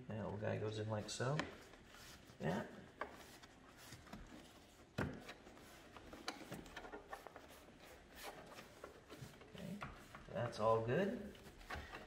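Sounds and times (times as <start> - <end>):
rubber rubbing: 1.0 - 12.0.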